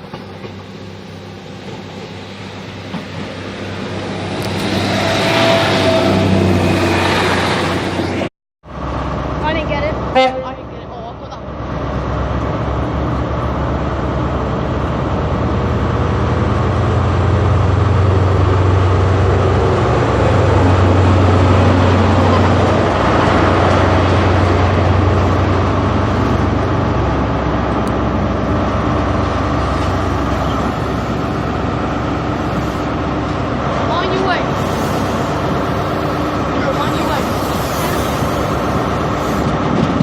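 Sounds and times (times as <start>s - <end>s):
diesel train engine drone: 0.0s - 40.0s
train wheels rumbling on rails: 0.0s - 40.0s.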